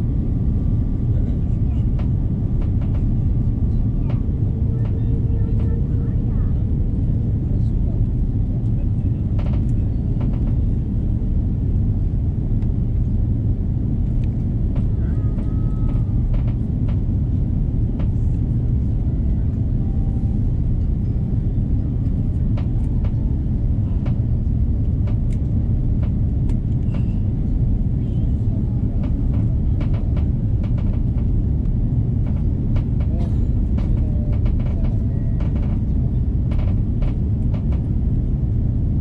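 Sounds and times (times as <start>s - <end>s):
airplane cabin engine rumble: 0.0s - 39.0s.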